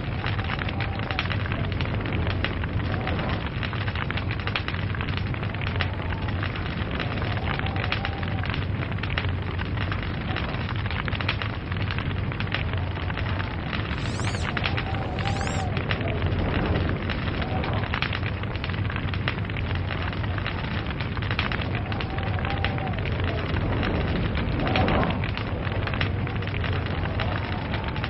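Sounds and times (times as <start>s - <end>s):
log fire crackling and popping: 0.0s - 28.0s
low rumble of flames: 0.0s - 28.0s.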